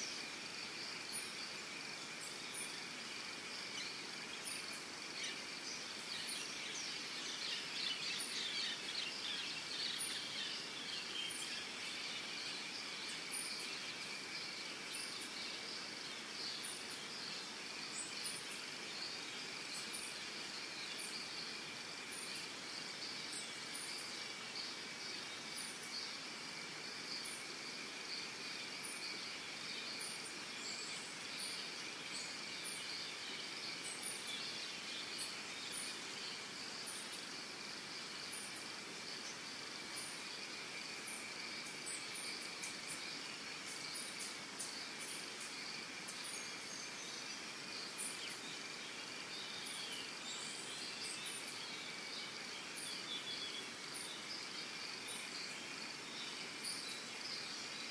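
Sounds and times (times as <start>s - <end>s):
insects buzzing: 0.0s - 57.9s.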